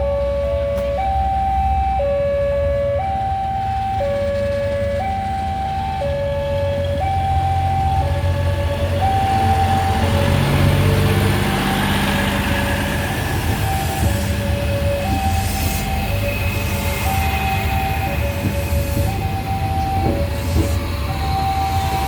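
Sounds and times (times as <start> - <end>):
train rumble and rail noise: 0.0 - 22.0
two-tone crossing alarm: 0.0 - 22.0.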